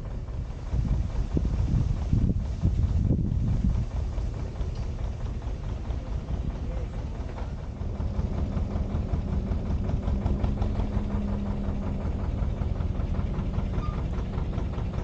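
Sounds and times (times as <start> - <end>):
diesel boat engine running: 0.0 - 15.0.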